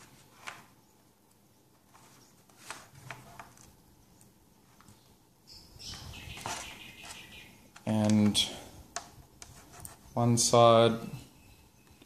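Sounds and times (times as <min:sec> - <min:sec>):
wires rustling: 0:00.0 - 0:05.2, 0:05.8 - 0:11.1.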